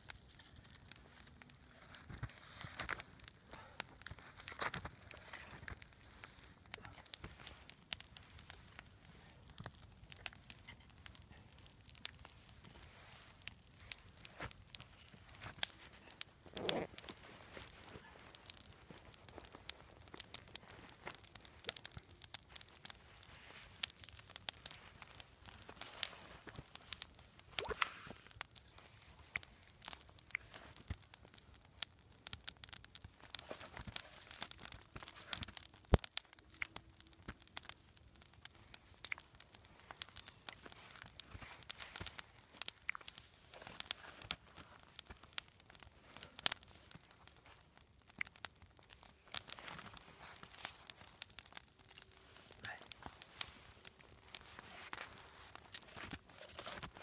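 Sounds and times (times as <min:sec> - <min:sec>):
twig fire crackling and popping: 0:00.0 - 0:57.0.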